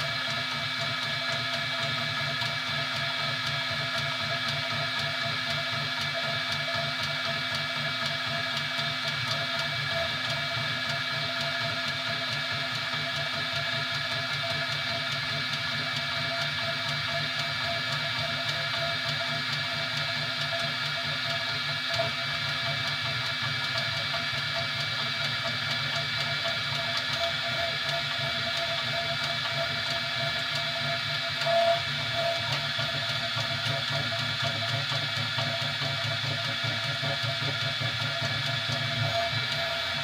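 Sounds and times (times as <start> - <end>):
printer humming with held tones: 0.0 - 40.0.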